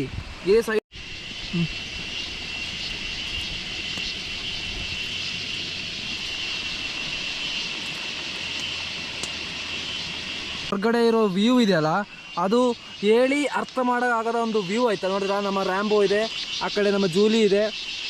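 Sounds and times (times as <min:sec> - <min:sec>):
even hiss: 0:00.0 - 0:18.0
high-pitched drone: 0:01.0 - 0:18.0.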